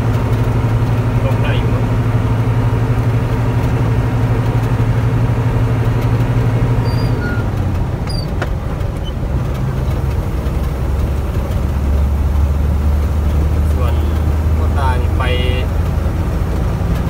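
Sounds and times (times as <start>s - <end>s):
truck engine hum: 0.0s - 17.0s.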